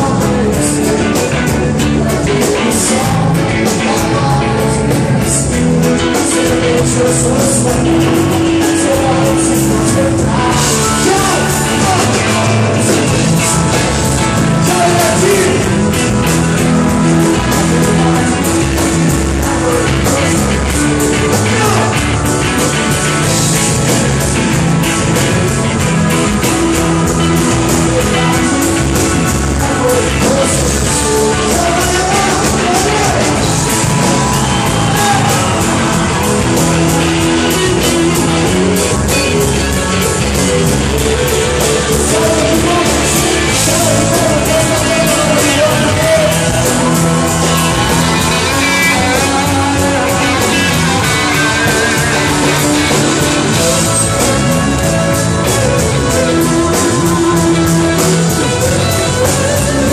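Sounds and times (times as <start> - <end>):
lead singer: 0.0 - 59.9
live band music: 0.0 - 59.9.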